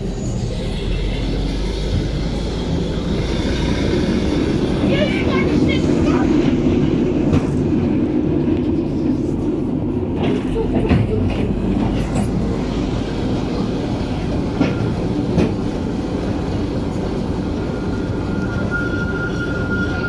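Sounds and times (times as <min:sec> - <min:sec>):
rumble of wheels on rails: 0:00.0 - 0:20.0.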